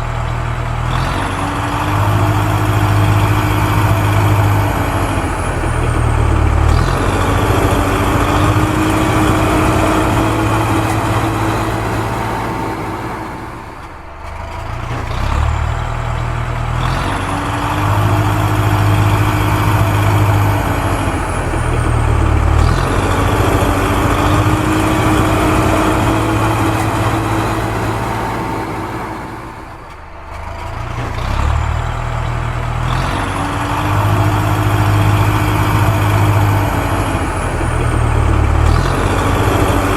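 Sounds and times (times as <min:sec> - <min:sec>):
heavy vehicle engine idling: 0:00.0 - 0:39.9.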